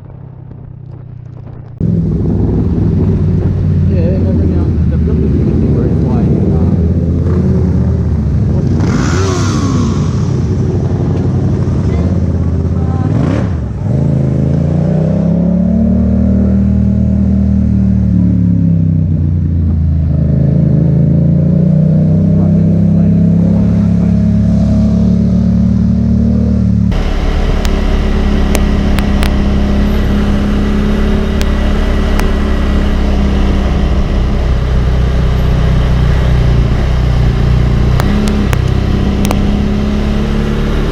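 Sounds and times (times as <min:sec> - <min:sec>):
motorcycle engine steady: 0:00.0 - 0:14.0, 0:16.9 - 0:40.9
motorcycle engine revving: 0:00.0 - 0:40.9.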